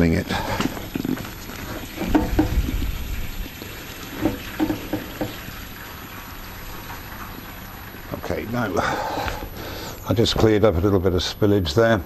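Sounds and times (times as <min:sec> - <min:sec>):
kerosene pouring into tank: 0:00.0 - 0:10.0
liquid glugging: 0:00.0 - 0:10.1.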